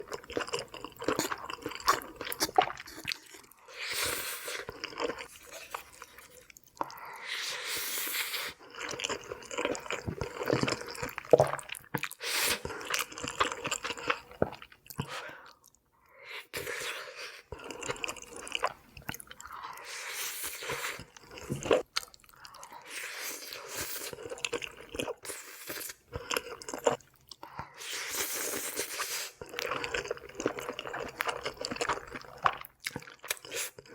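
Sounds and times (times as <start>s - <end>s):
person chewing pasta: 0.0s - 33.9s.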